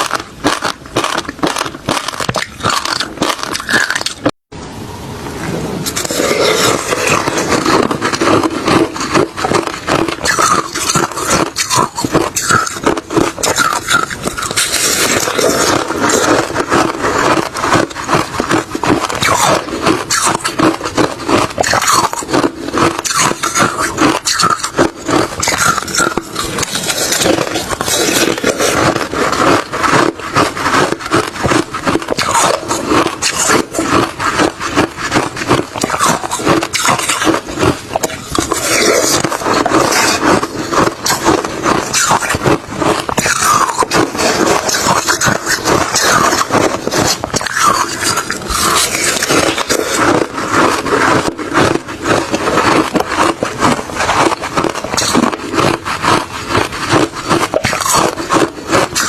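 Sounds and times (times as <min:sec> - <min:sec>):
person chewing ice: 0:00.0 - 0:04.4, 0:05.8 - 0:59.0.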